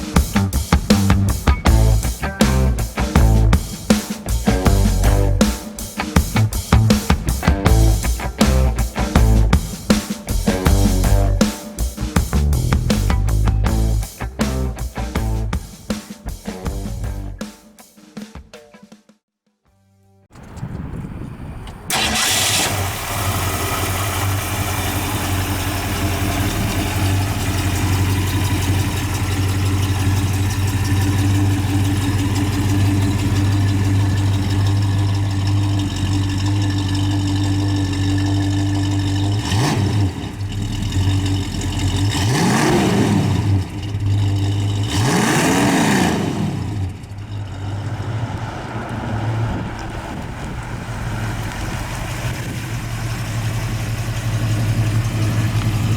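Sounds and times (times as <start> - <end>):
car engine idling and revving: 0.0 - 5.6, 6.2 - 15.6, 16.3 - 17.4, 21.6 - 55.9.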